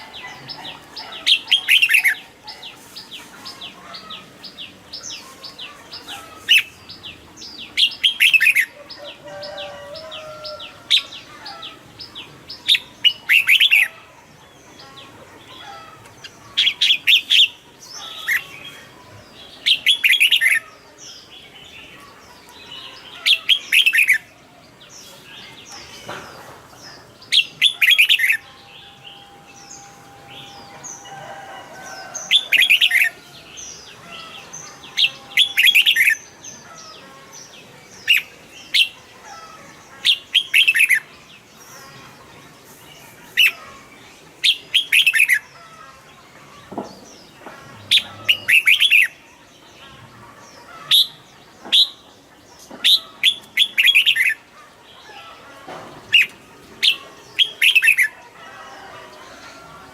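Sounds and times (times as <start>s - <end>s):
bird singing warbled phrases: 0.0s - 59.9s.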